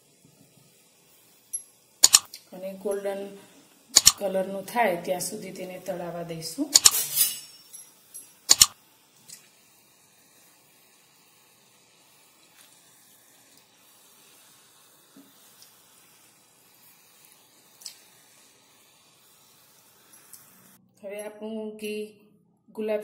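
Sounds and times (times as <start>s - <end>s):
oil bubbling and sizzling: 0.0s - 20.8s.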